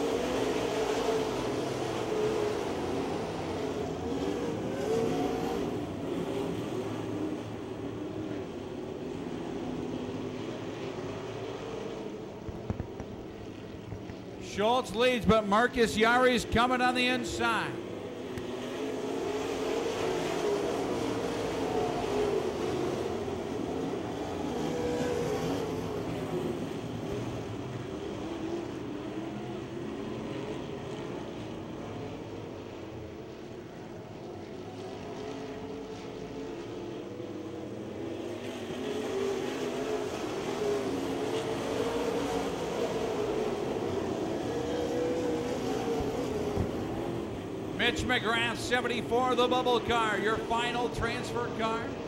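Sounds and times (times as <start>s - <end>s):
race car engines roaring: 0.0s - 52.0s.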